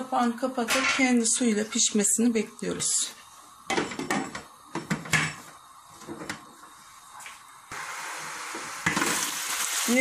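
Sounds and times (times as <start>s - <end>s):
peppers sizzling in a pan: 0.0s - 10.0s.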